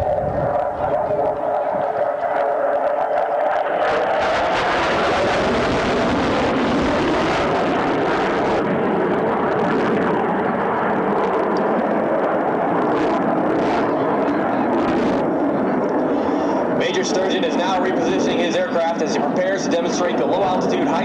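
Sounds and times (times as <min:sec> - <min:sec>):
aircraft engine in flight: 0:00.0 - 0:21.0.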